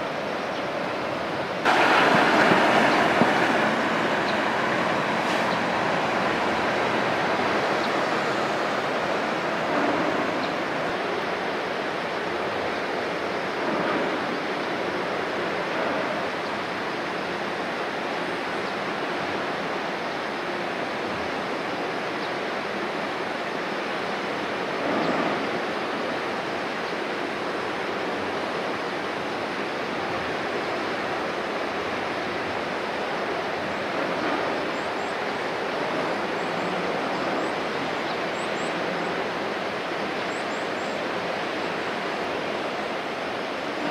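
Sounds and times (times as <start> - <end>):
water rushing along ship hull: 0.0 - 43.9.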